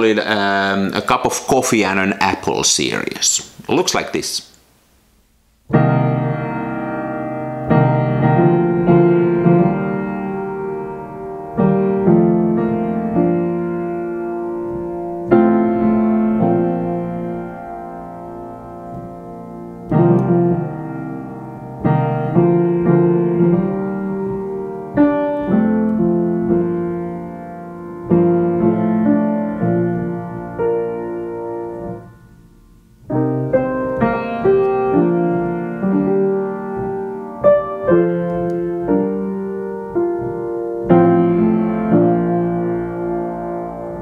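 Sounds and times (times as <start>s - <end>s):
slow piano chords: 5.6s - 44.0s.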